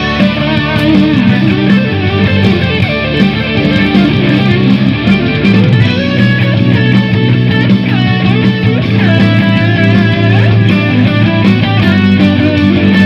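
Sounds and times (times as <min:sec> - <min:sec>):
electric guitar playing: 0:00.0 - 0:13.0.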